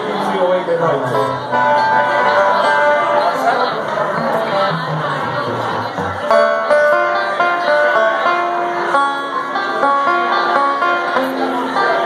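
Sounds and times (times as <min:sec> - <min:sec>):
banjo picking: 0:00.0 - 0:12.0
acoustic guitars strumming: 0:00.1 - 0:12.0.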